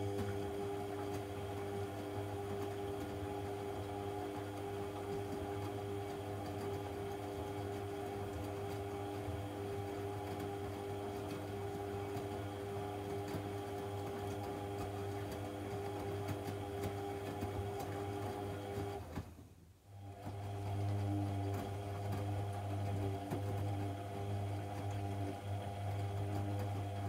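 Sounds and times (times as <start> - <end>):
washing machine motor humming: 0.0 - 19.3, 19.9 - 27.0.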